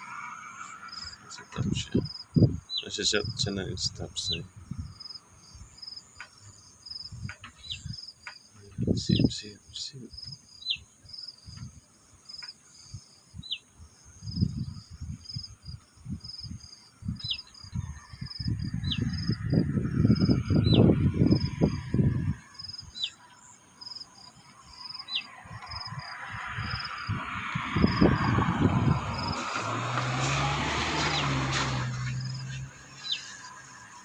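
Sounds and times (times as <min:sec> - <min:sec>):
insect chirping: 0:00.0 - 0:34.0.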